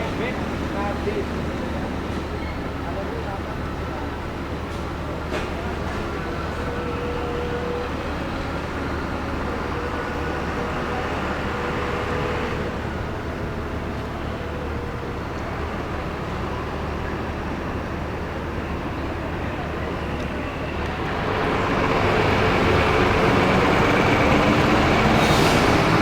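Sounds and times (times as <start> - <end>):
bus engines and traffic: 0.0 - 26.0.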